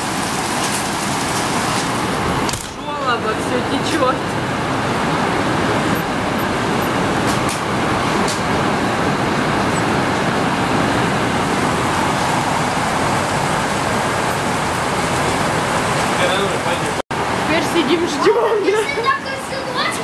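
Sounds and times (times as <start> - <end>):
heavy rain downpour: 0.0 - 20.0
water running off gutters: 0.0 - 20.0.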